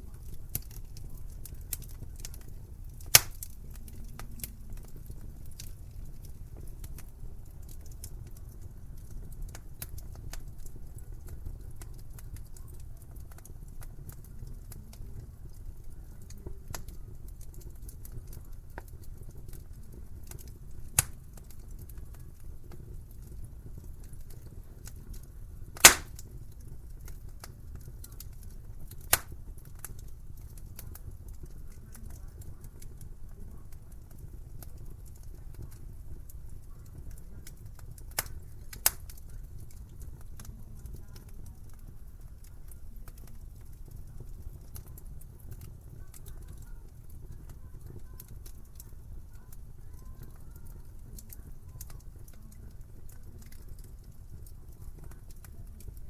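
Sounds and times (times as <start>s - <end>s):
low rumble of flame: 0.0s - 56.0s
wood fire crackling: 0.0s - 56.0s.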